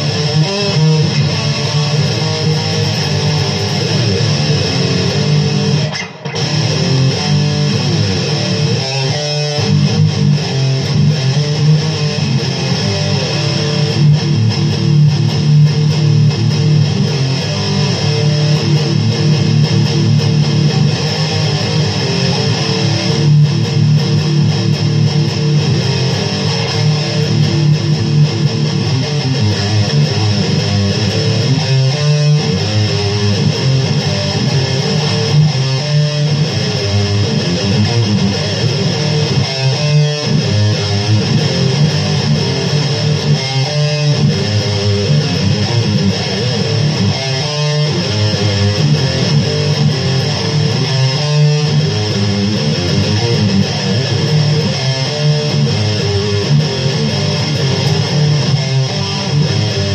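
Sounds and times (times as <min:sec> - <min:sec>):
electric guitar riffs: 0:00.0 - 0:59.9.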